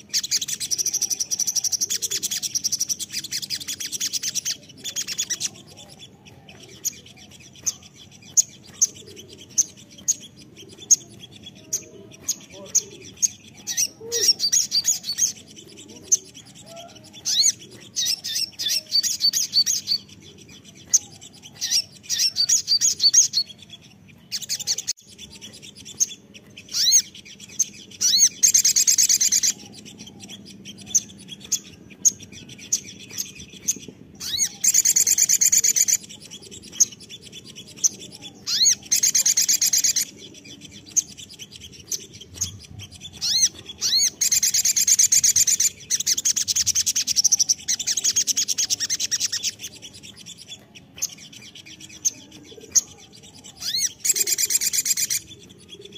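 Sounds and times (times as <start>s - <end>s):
bird chirping and trilling: 0.0s - 55.9s.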